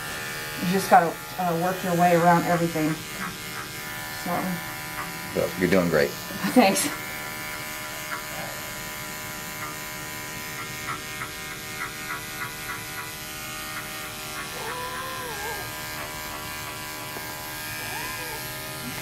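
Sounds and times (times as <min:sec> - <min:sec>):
electric clippers humming: 0:00.0 - 0:19.0.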